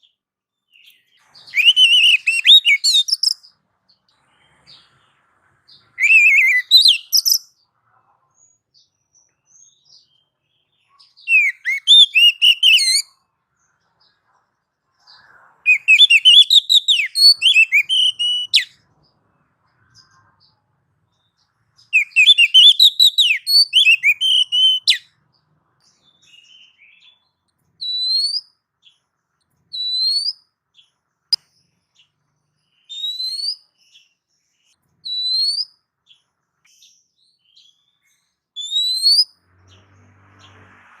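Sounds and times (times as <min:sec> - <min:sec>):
bird singing whistled notes: 0:00.0 - 0:05.0, 0:05.7 - 0:07.6, 0:08.8 - 0:14.1, 0:15.0 - 0:25.2, 0:25.8 - 0:29.0, 0:29.7 - 0:35.9, 0:36.8 - 0:41.0.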